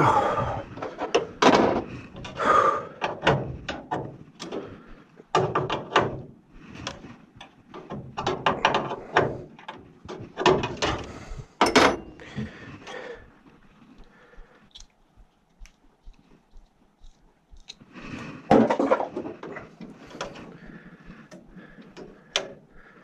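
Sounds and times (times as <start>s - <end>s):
hand tools and parts clattering: 0.0s - 13.0s, 16.5s - 22.8s.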